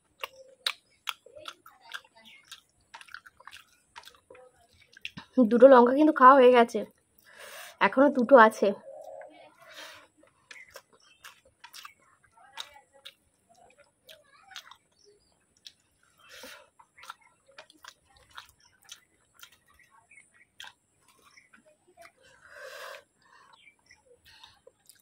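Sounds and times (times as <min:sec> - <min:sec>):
faint chewing: 0:00.0 - 0:05.4, 0:08.8 - 0:25.0
mouth clicks and smacks: 0:00.0 - 0:05.4, 0:09.0 - 0:25.0.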